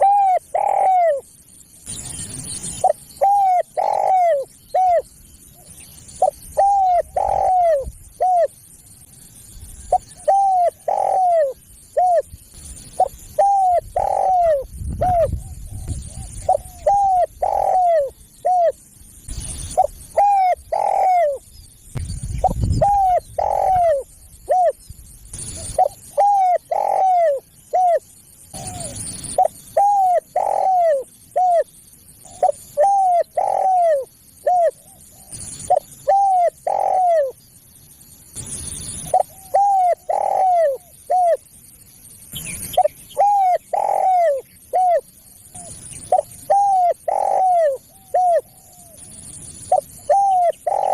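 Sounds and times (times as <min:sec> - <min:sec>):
dove cooing: 0:00.0 - 0:01.3, 0:01.9 - 0:08.7, 0:09.8 - 0:21.4, 0:22.4 - 0:24.8, 0:25.4 - 0:37.4, 0:38.4 - 0:41.5, 0:42.6 - 0:50.9.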